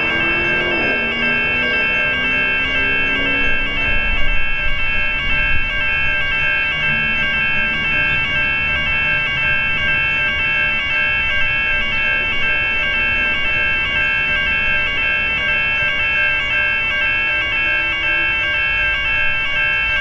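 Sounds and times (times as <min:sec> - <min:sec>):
level crossing warning bell: 0:00.0 - 0:20.0.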